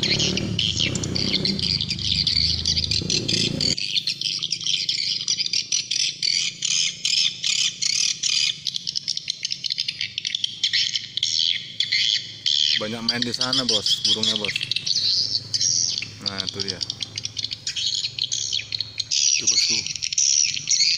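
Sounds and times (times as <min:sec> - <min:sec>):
birds twittering: 0:00.0 - 0:20.9.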